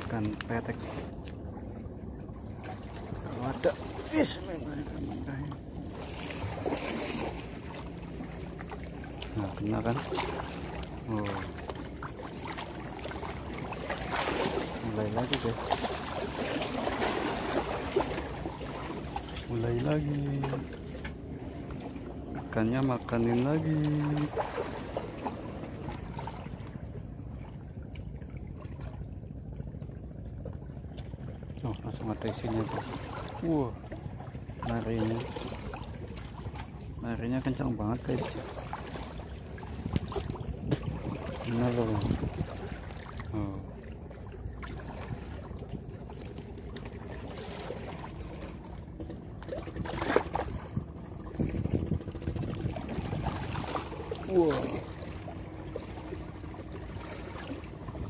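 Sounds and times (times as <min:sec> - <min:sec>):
water lapping against concrete: 0:00.0 - 0:58.0
wind: 0:00.0 - 0:58.0.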